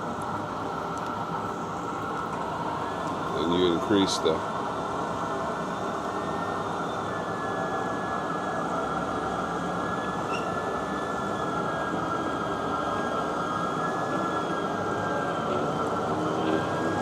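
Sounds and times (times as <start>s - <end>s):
lathe humming with high whine: 0.0s - 17.0s.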